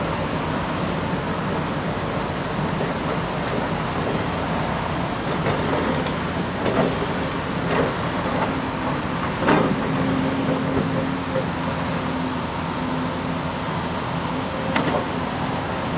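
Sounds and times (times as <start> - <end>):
diesel engines running: 0.0 - 15.9.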